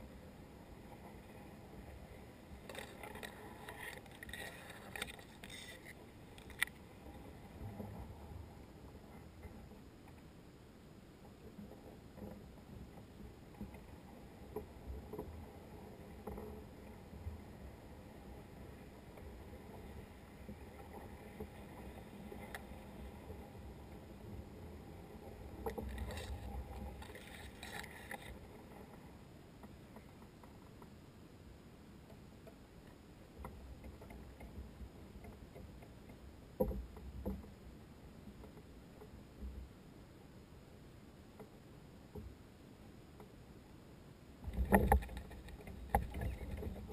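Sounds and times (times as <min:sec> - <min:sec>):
water along kayak hull: 0:00.0 - 0:46.9
faint ticks: 0:00.9 - 0:08.3, 0:08.9 - 0:10.3, 0:11.2 - 0:31.0, 0:32.0 - 0:39.8, 0:41.3 - 0:42.4, 0:43.1 - 0:43.8, 0:44.4 - 0:46.9.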